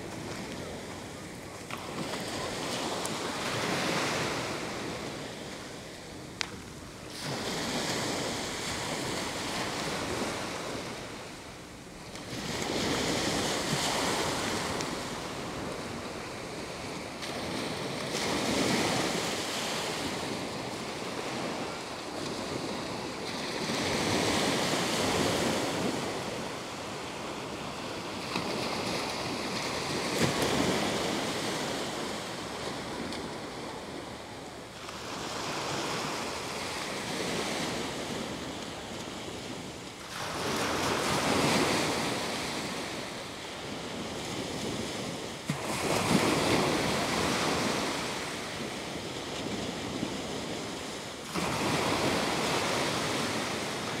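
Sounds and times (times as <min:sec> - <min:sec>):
small waves breaking on sand: 0:00.0 - 0:54.0.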